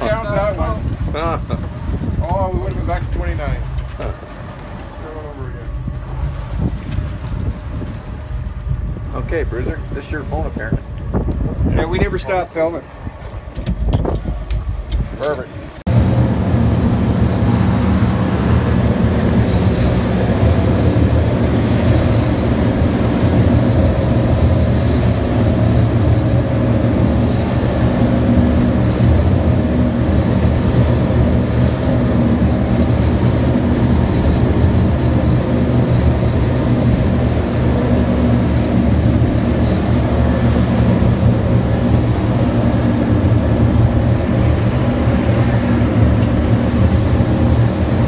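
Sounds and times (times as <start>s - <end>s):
boat engines droning: 0.0s - 48.0s
water rushing from wake: 0.0s - 48.0s.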